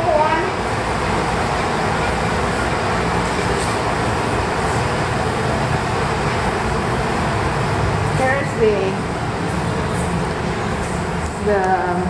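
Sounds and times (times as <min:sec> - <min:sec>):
steady rushing noise: 0:00.0 - 0:11.6.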